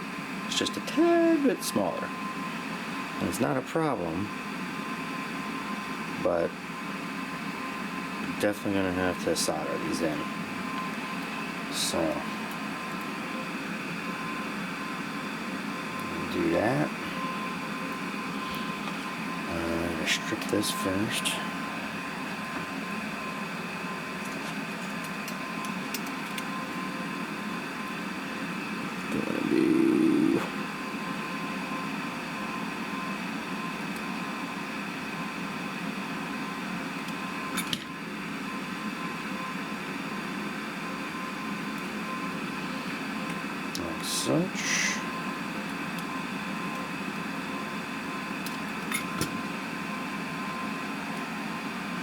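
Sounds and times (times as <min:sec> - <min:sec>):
room hum and hiss: 0:00.0 - 0:52.0.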